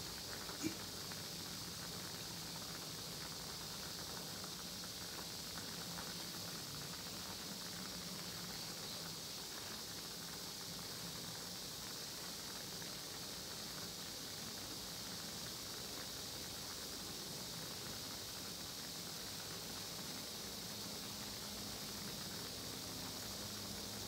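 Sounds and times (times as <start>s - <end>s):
bubbling and crackling simmer: 0.0s - 24.0s.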